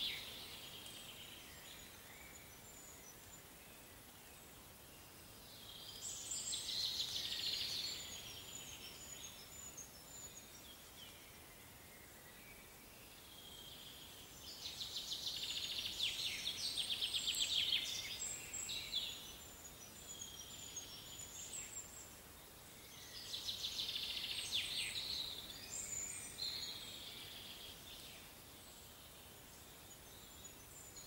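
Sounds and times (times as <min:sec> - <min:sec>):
faint outdoor background noise: 0:00.0 - 0:31.0.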